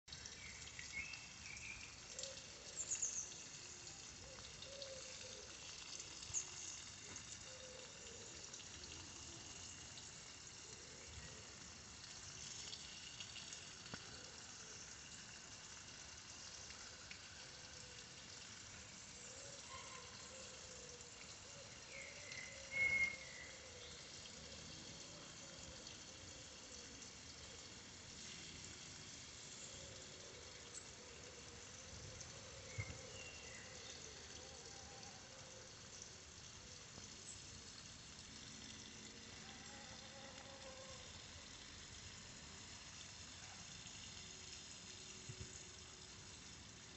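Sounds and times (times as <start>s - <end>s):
outdoor background hiss: 0.0s - 46.9s.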